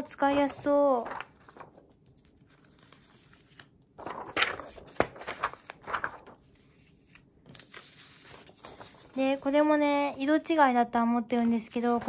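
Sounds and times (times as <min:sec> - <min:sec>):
paper sheets rustling and sliding: 0:00.2 - 0:10.2.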